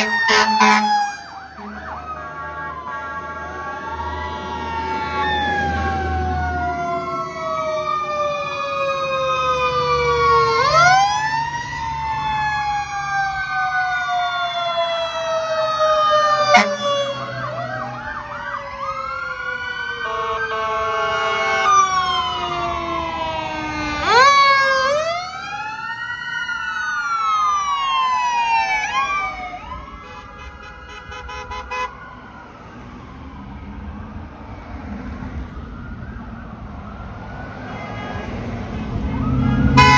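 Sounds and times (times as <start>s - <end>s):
fire truck sirens wailing: 0.0s - 39.9s
truck engines rumbling: 0.0s - 39.9s.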